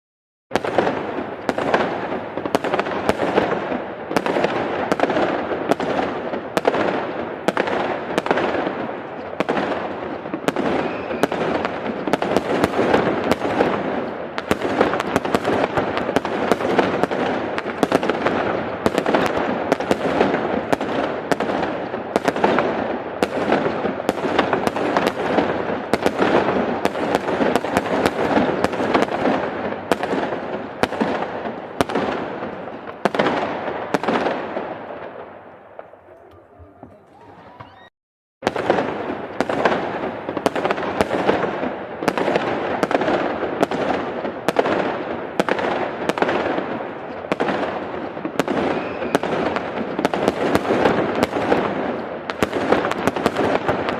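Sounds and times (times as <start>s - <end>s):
fireworks bangs: 0.5s - 53.9s
fireworks crackle and rumble: 0.5s - 53.9s.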